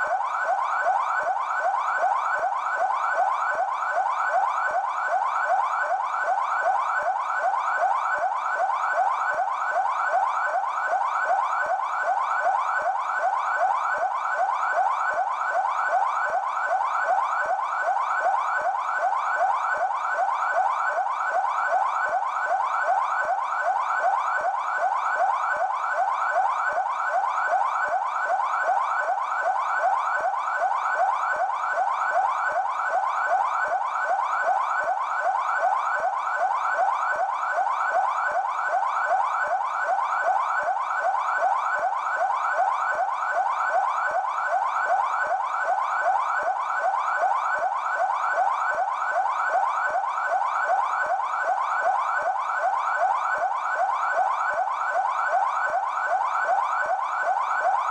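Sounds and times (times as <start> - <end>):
electronic siren yelp: 0.0 - 57.9.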